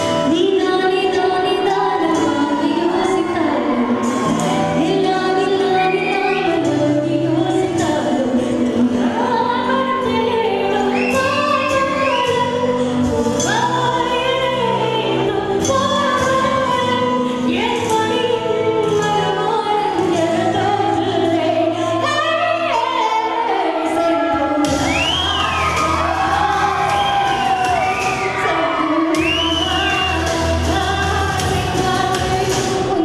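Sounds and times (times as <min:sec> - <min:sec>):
woman singing into microphone: 0:00.0 - 0:33.0.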